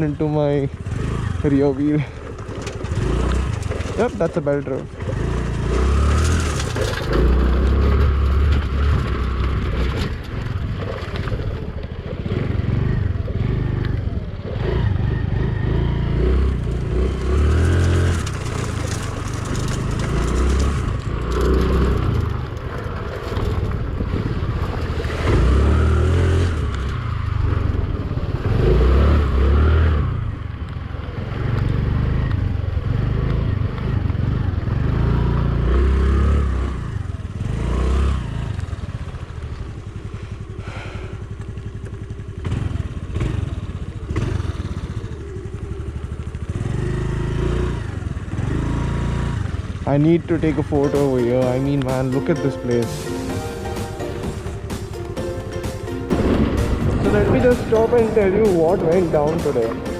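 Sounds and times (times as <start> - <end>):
motorbike engine: 0.0 - 59.9.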